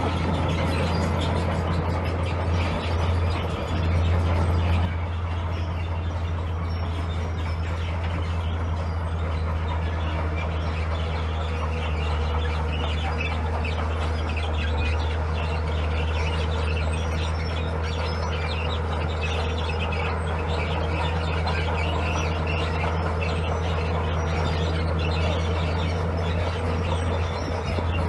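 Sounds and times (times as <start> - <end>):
heavy diesel machinery drone: 0.0 - 28.0.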